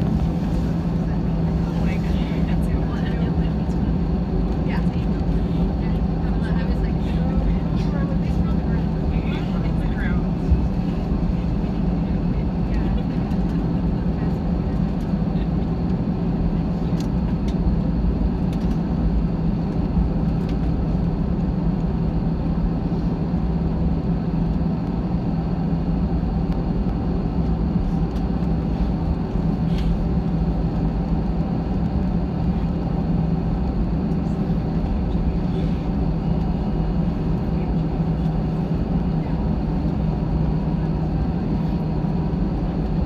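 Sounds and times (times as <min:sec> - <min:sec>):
aircraft rolling noise: 0:00.0 - 0:43.0
constant low hum: 0:00.0 - 0:43.0
jet engines droning: 0:00.0 - 0:43.0.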